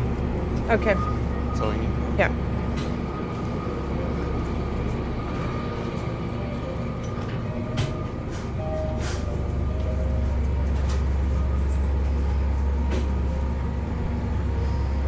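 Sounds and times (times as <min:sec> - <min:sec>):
low store ambience hum: 0:00.0 - 0:15.0.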